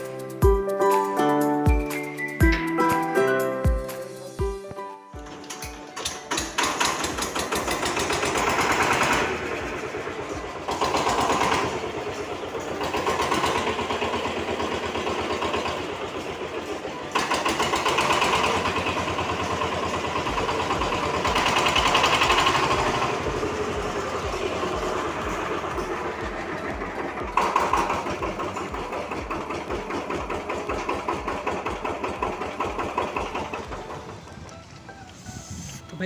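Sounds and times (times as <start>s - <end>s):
vehicle engine running: 5.7s - 35.7s.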